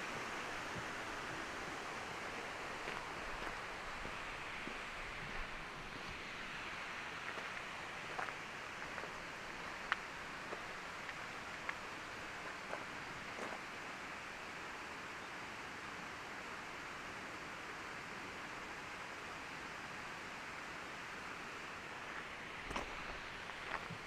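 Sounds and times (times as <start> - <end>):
rushing outdoor hiss: 0.0 - 24.0.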